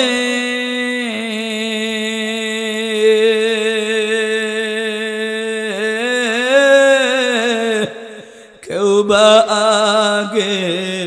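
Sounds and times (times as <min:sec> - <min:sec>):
man chanting over a microphone: 0:00.0 - 0:11.0.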